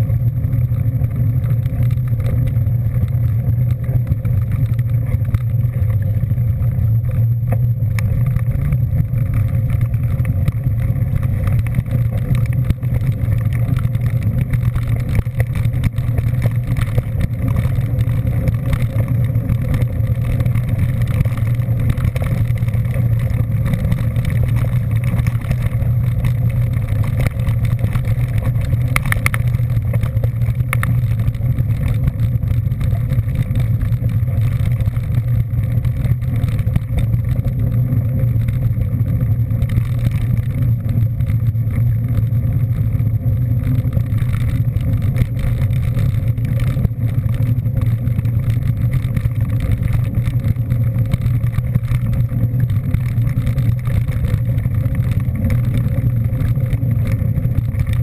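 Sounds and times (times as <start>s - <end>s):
road and wind noise: 0.0s - 58.0s
vehicle engine droning: 0.0s - 58.0s.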